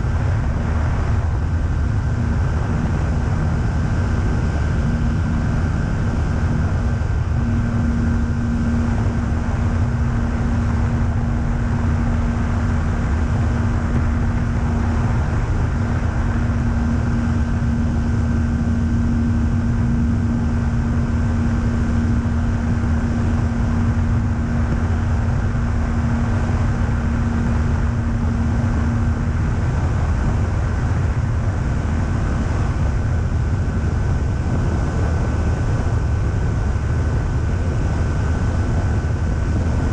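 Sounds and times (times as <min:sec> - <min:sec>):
aircraft engine and propeller drone: 0:00.0 - 0:39.9
steady hum: 0:00.0 - 0:39.9.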